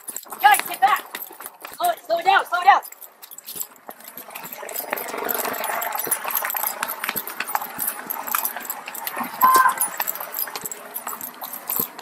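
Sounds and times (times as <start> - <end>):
duty belt gear jingling and rattling: 0.0 - 12.0
footsteps: 0.0 - 12.0.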